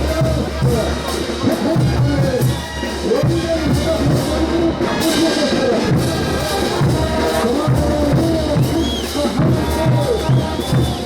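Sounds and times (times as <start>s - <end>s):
bass drum beat: 0.0s - 11.0s
brass melody: 0.0s - 11.0s.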